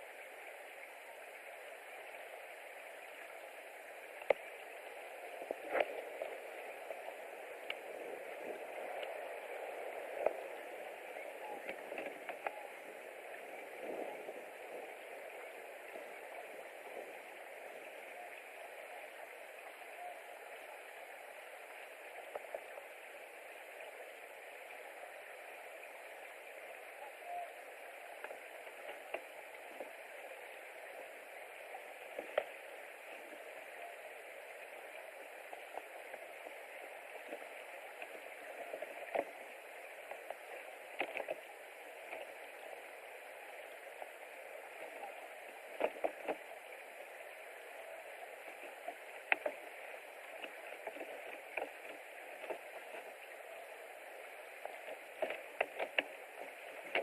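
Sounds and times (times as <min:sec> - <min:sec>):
light ticks and crackles: 0:00.0 - 0:57.0
steady outdoor hiss: 0:00.0 - 0:57.0.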